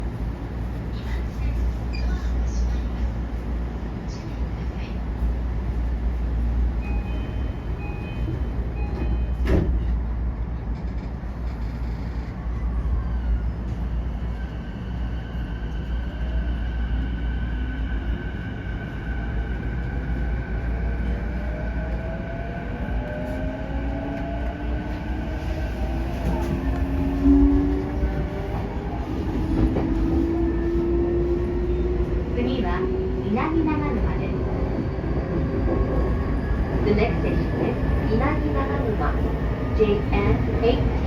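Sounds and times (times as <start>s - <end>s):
electric train rumbling: 0.0s - 41.0s.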